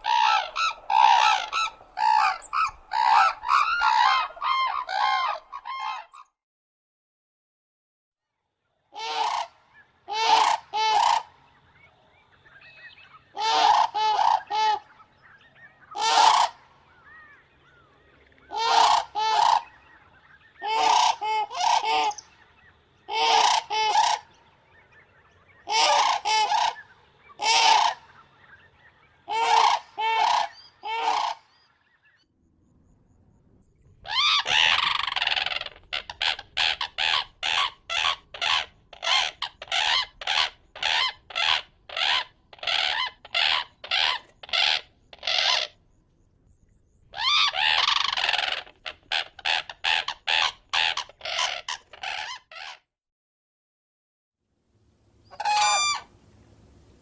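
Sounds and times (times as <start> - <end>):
crane trumpeting calls: 0.0 - 6.3, 9.0 - 11.5, 12.5 - 15.1, 15.8 - 31.8, 34.0 - 45.8, 47.1 - 52.8, 55.3 - 56.2.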